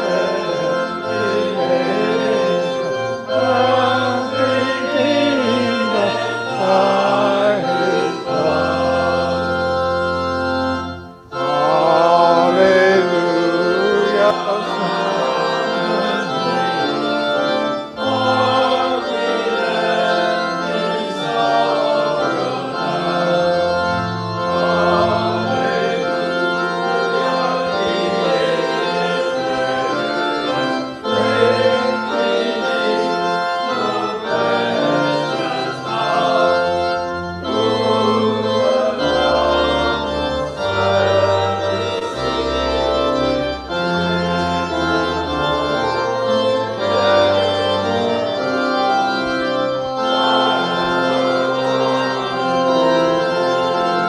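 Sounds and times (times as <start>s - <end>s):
church organ playing a hymn: 0.0s - 54.0s
congregation singing: 0.0s - 54.0s.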